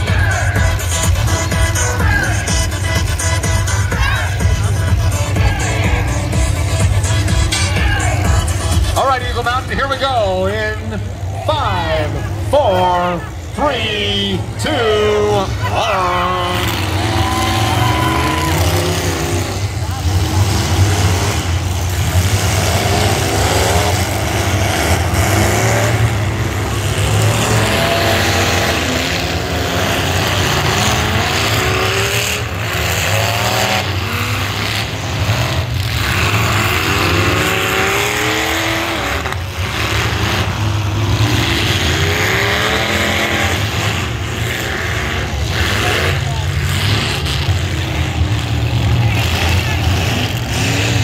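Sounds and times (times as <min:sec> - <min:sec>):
car engines revving: 0:00.0 - 0:51.0.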